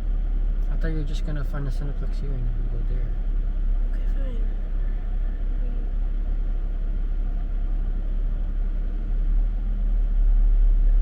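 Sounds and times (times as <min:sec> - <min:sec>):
car engine rumble from inside: 0:00.0 - 0:11.0
road noise: 0:00.0 - 0:11.0.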